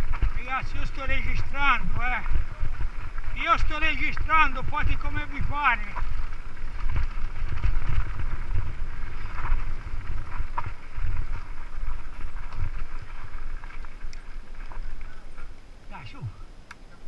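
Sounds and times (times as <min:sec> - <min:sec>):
tyres crunching on gravel: 0:00.0 - 0:17.0
wind buffeting microphone: 0:00.0 - 0:17.0.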